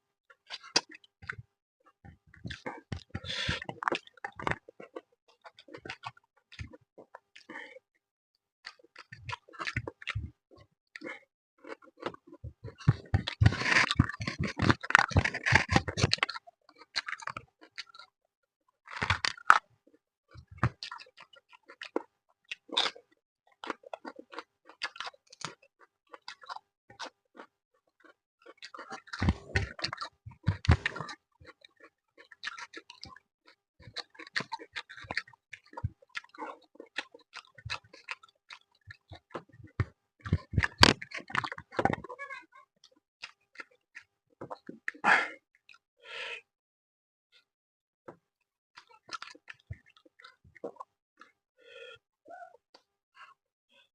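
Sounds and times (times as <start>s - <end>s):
person chewing: 2.5s - 7.8s, 8.6s - 10.4s, 11.0s - 18.1s, 18.8s - 19.6s, 20.4s - 42.4s, 43.2s - 45.8s, 48.8s - 53.3s.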